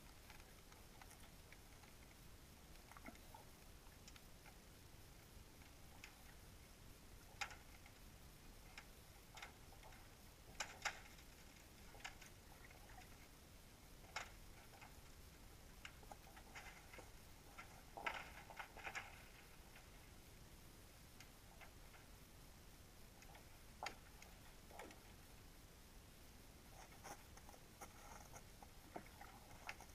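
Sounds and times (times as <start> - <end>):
faint underwater ticks and clicks: 0.0 - 29.9
low hiss: 0.0 - 29.9.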